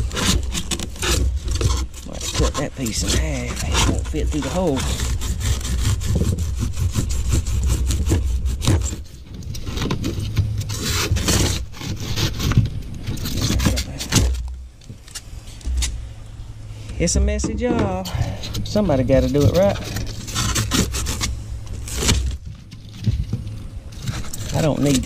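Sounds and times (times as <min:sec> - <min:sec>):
foam crunching and squeaking: 0:00.0 - 0:16.0, 0:17.1 - 0:25.0.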